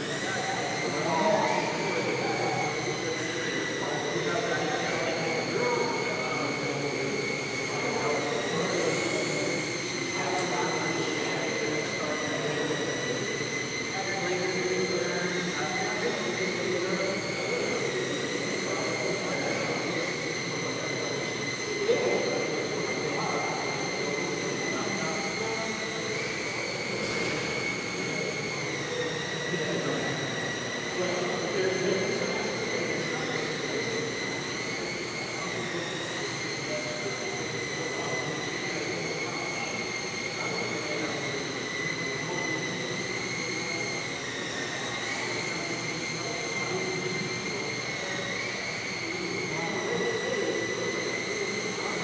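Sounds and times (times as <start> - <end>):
rc plane motor and propeller whining: 0.0 - 52.0.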